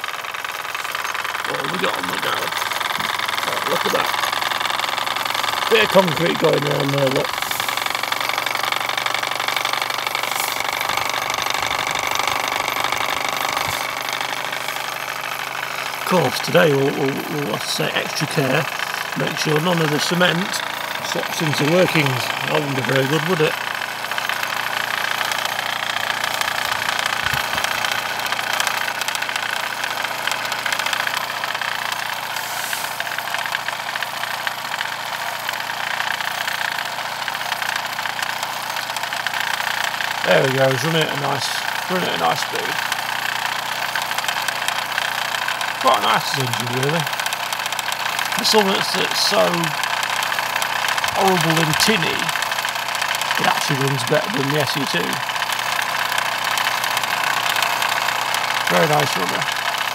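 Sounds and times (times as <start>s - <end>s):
cement mixer drum turning: 0.0s - 59.9s
toy steam engine chatter: 0.0s - 59.9s.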